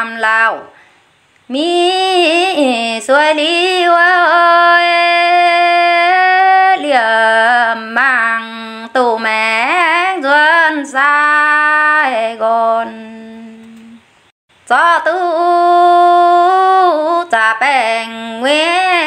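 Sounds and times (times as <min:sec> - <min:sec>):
woman singing unaccompanied: 0:00.0 - 0:00.8, 0:01.4 - 0:14.0, 0:14.6 - 0:19.0.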